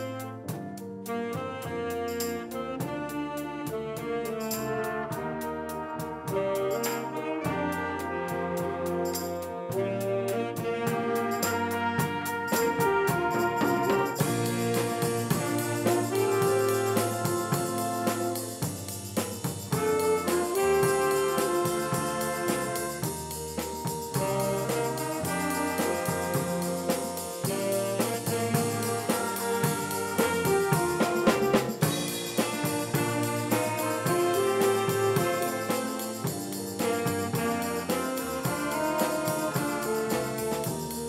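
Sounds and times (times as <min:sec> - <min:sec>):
drum kit beat: 0:00.0 - 0:41.0
horns holding chords: 0:00.0 - 0:41.0.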